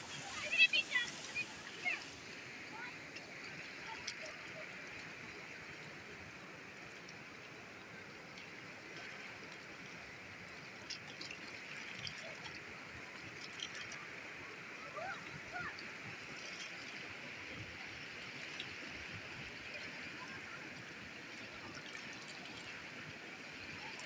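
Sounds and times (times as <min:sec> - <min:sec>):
river rushing over stones: 0:00.0 - 0:24.0.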